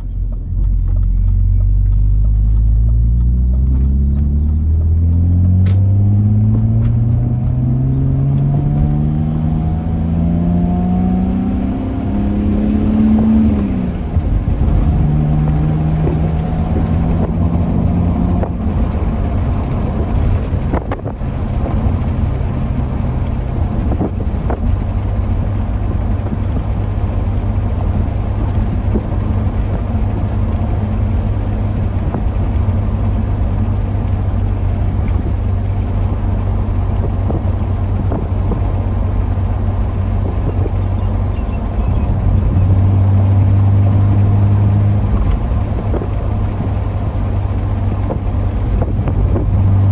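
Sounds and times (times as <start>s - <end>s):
car engine running: 0.0s - 49.9s
road noise: 0.0s - 49.9s.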